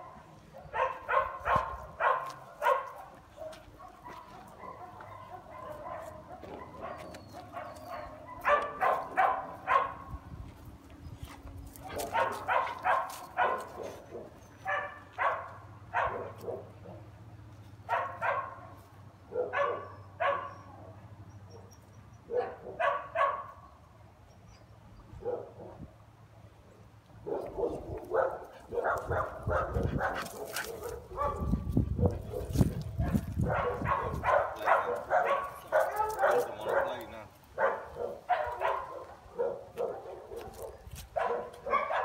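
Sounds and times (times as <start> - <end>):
dogs barking and yipping: 0.0 - 10.3, 11.2 - 17.2, 17.8 - 23.7, 25.1 - 25.8, 27.2 - 42.0.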